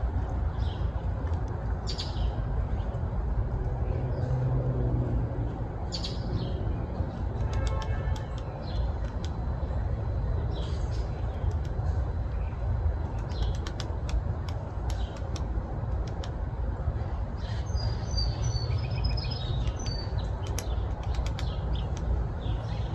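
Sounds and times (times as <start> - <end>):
steady low rumble: 0.0 - 7.6, 8.2 - 22.9.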